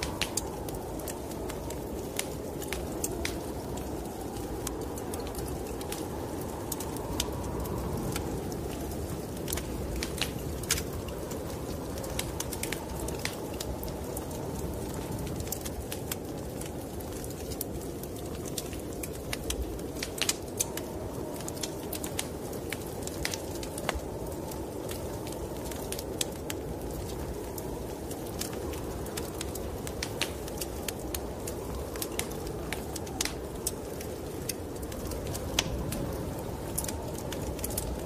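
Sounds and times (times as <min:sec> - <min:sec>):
storm wind rushing: 0:00.0 - 0:38.0
wood fire crackling and popping: 0:00.0 - 0:38.0.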